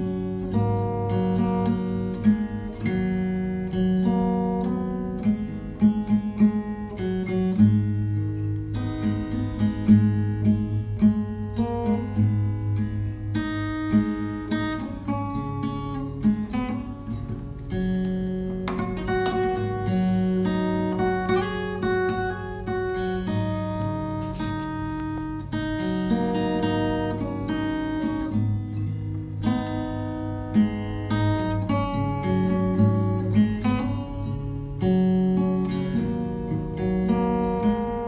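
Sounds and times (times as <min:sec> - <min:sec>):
plucked acoustic guitar: 0:00.0 - 0:38.0.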